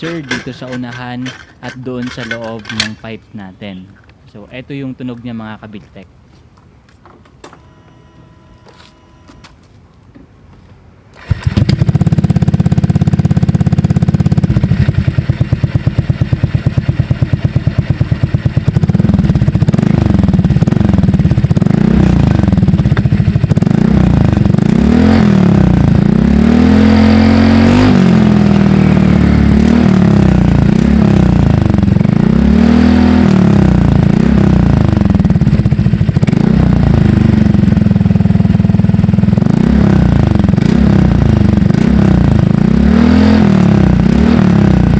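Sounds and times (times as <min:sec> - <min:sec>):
scooter engine idling and revving: 0:00.0 - 0:03.0, 0:11.2 - 0:44.9.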